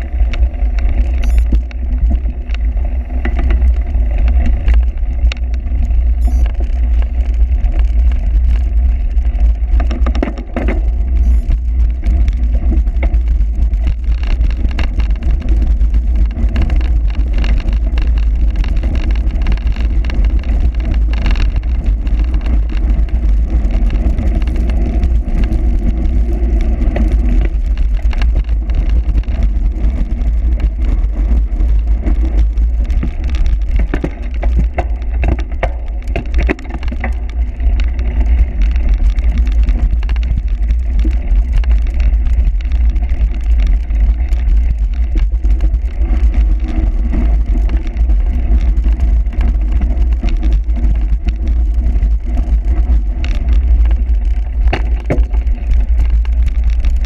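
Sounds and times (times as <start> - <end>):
bike rattling: 0.0 - 57.0
bike tyres on rough ground: 0.0 - 57.0
wind rumble on microphone: 0.0 - 57.0.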